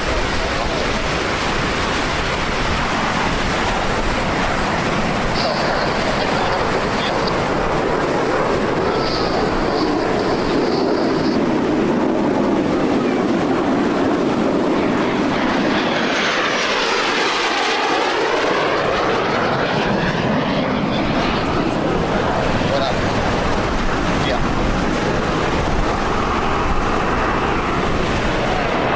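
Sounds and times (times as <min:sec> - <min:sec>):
jet passing whoosh: 0:00.0 - 0:28.9
loud jet roar: 0:00.0 - 0:28.9.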